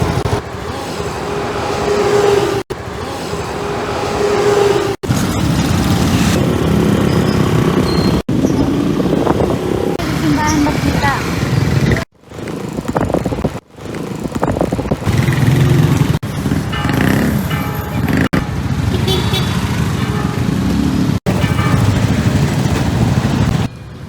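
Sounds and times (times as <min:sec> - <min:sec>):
scooter engine and wind rumble: 0:00.0 - 0:24.0.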